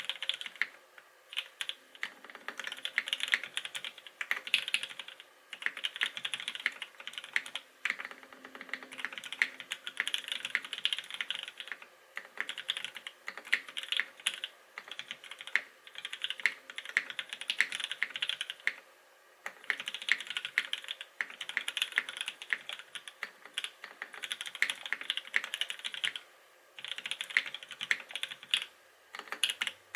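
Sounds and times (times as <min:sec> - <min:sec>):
mechanical keyboard typing: 0:00.0 - 0:00.7, 0:01.3 - 0:18.8, 0:19.5 - 0:26.2, 0:26.8 - 0:29.8.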